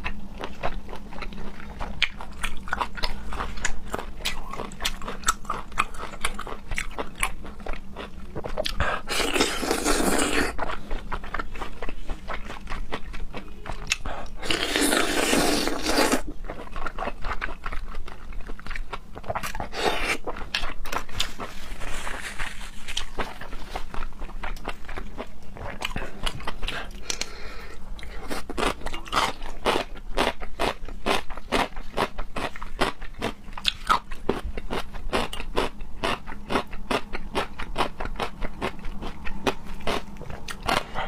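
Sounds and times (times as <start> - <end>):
person chewing seafood: 0.0 - 41.0.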